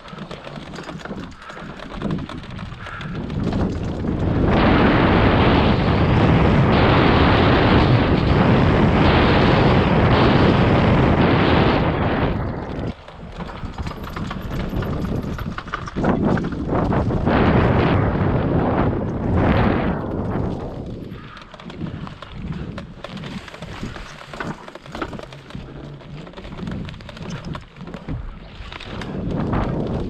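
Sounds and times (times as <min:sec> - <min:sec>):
tyre and trail noise: 0:00.0 - 0:30.0
wind rushing over microphone: 0:00.0 - 0:30.0.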